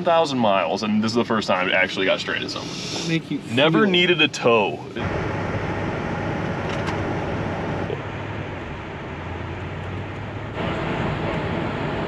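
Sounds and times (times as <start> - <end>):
road noise: 0.0 - 12.0
van engine hum: 0.0 - 12.0.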